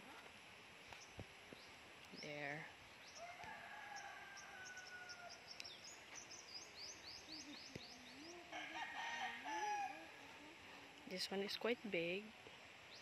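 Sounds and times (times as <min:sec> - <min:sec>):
birds chirping: 0:00.8 - 0:13.0.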